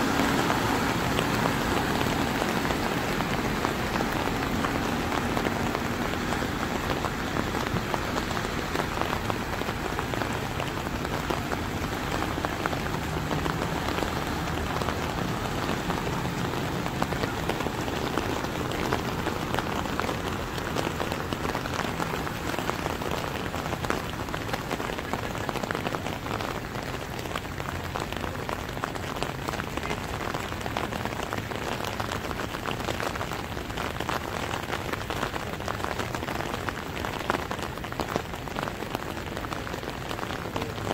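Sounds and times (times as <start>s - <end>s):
heavy rain on water and ground: 0.0s - 40.9s.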